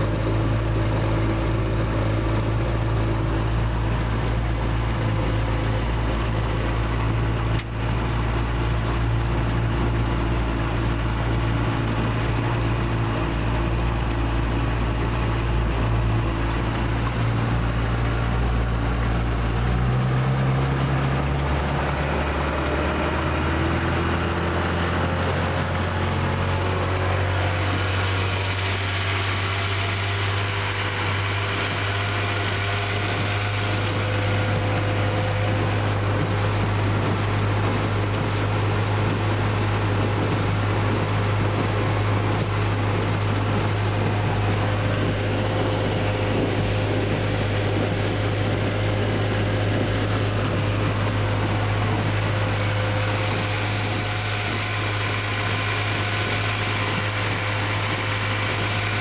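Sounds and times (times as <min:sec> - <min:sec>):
outboard motor running: 0:00.0 - 0:59.0
wind and water rushing: 0:00.0 - 0:59.0.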